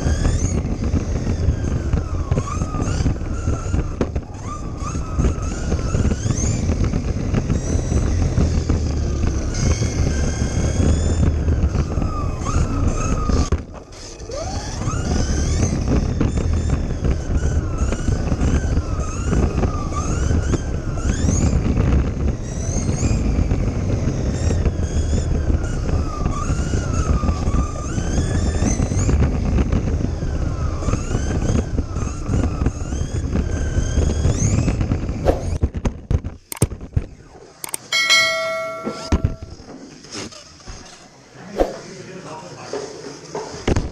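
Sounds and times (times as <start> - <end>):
toy car electric motor whining: 0.0 - 35.6, 40.0 - 41.1
rumble of wheels: 0.0 - 43.9
wind: 0.0 - 43.9.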